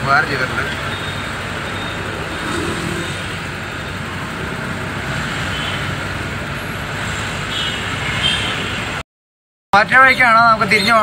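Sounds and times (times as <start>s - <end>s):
car engine and road noise: 0.0s - 9.0s.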